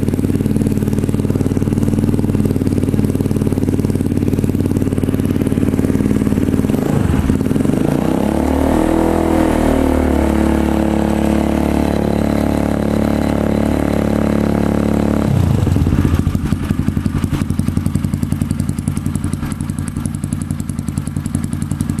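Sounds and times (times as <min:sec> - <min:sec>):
dirt bike engine revving and idling: 0:00.0 - 0:22.0.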